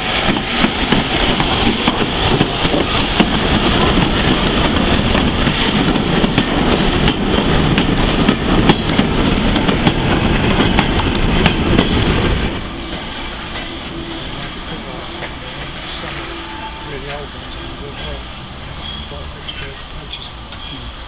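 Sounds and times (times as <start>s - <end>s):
steam train rumbling past: 0.0s - 21.0s.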